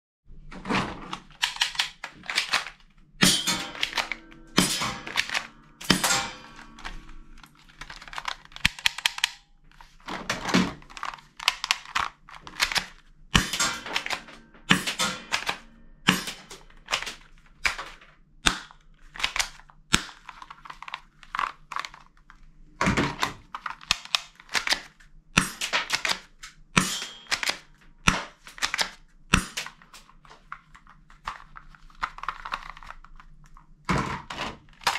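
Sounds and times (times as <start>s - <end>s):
plastic toy guns clattering: 0.7s - 34.9s.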